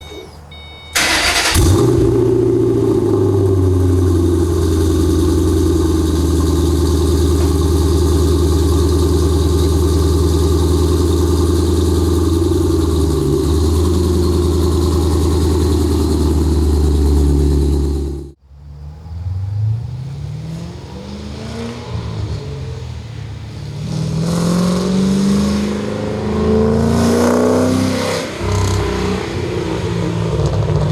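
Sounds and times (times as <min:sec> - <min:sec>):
car engine starting and idling: 0:00.0 - 0:30.9.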